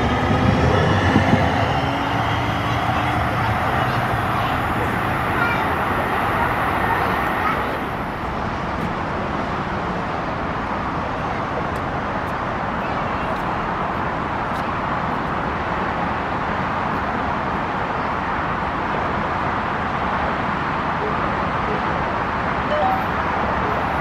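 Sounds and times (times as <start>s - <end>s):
light rail car approaching: 0.0s - 24.0s
traffic rumble: 0.0s - 24.0s.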